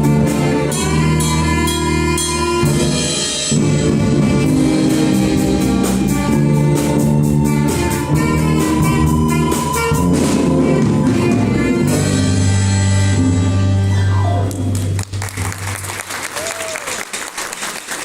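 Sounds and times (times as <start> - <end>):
orchestra playing: 0.0 - 16.2.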